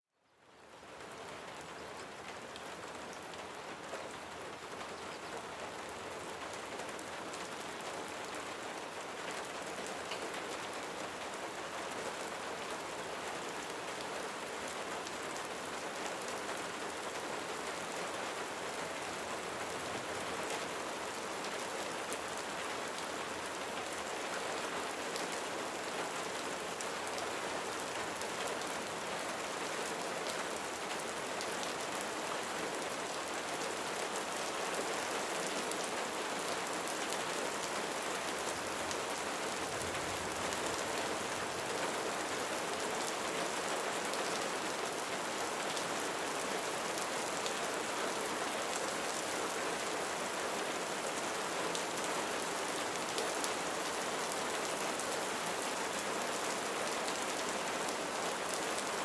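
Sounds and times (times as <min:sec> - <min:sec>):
rain falling on a roof: 0:00.1 - 0:59.0.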